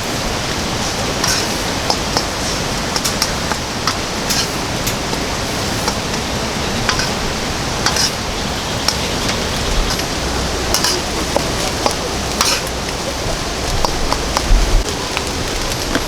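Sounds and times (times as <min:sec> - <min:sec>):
heavy rain: 0:00.0 - 0:16.0
sharp raindrop taps: 0:00.0 - 0:16.0.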